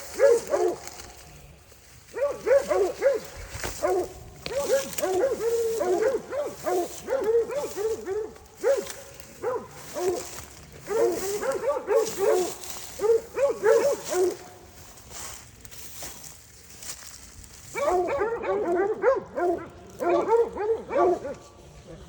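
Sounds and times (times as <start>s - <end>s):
dogs barking and yelping: 0.0s - 1.3s, 1.9s - 15.4s, 16.9s - 21.6s.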